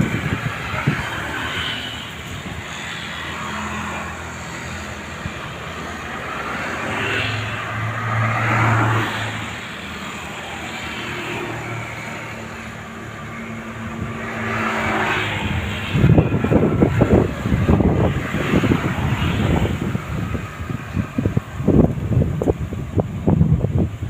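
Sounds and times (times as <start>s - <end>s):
strong wind gusting: 0.0s - 24.0s.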